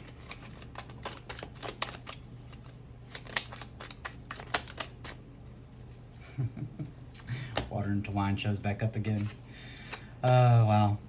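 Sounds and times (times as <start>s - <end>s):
cards being shuffled by hand: 0.0s - 6.1s, 7.6s - 10.4s.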